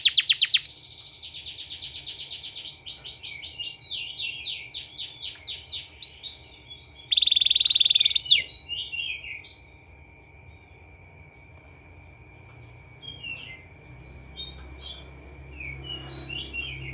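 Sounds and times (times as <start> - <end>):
canary singing: 0.0 - 16.9
canary trill: 0.0 - 16.9.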